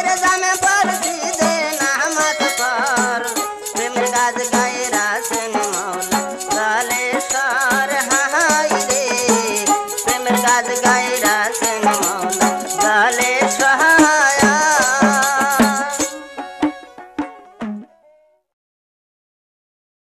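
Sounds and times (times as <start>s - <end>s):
rattling hand percussion: 0.0s - 17.9s
person singing ornamented melody: 0.0s - 18.4s.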